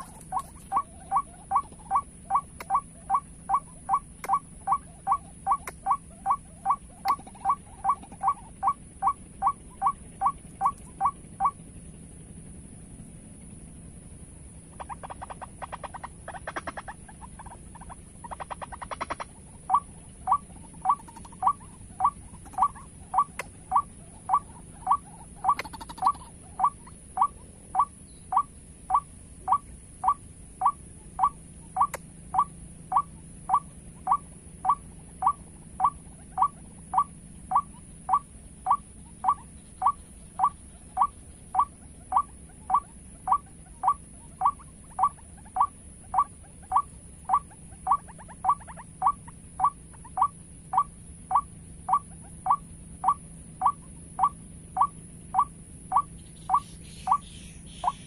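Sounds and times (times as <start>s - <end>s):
waterhen call: 0.0s - 11.6s, 14.7s - 58.0s
high-pitched whine: 0.0s - 58.0s.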